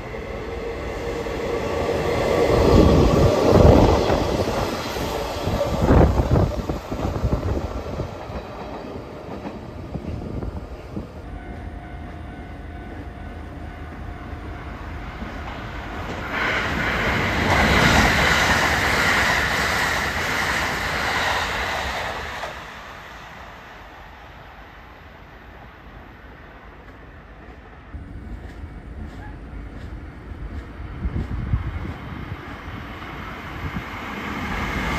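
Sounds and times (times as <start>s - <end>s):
train wheel and rail rush: 0.0s - 34.9s.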